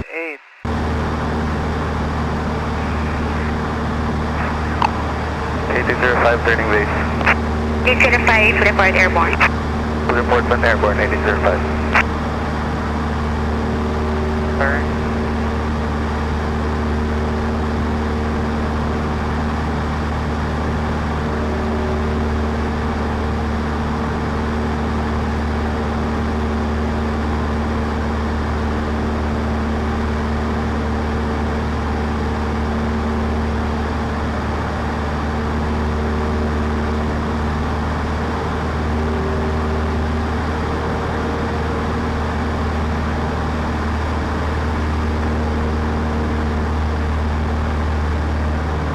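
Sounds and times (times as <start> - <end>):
light aircraft engine drone: 0.0 - 48.9.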